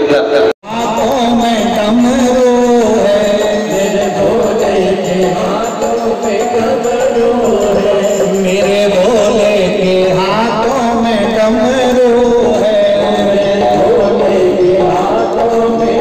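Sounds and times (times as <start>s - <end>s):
accompanying music: 0.6s - 16.0s
person singing devotional song: 0.6s - 16.0s.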